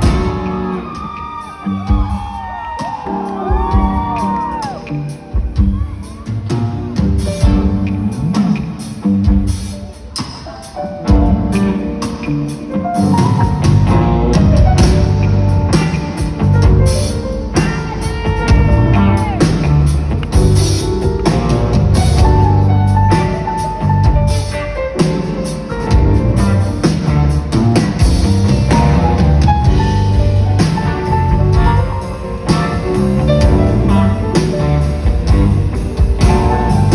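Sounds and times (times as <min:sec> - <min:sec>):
drum kit: 0:00.0 - 0:36.9
pop-rock band playing: 0:00.0 - 0:36.9.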